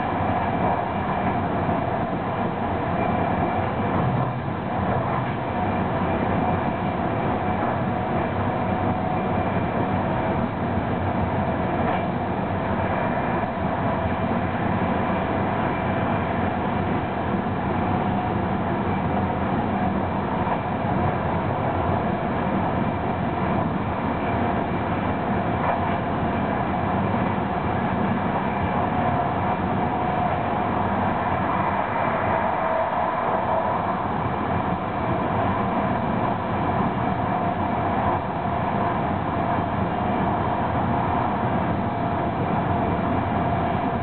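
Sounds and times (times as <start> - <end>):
constant hum: 0.0 - 44.0
train wheels rumbling on rail: 0.0 - 44.0.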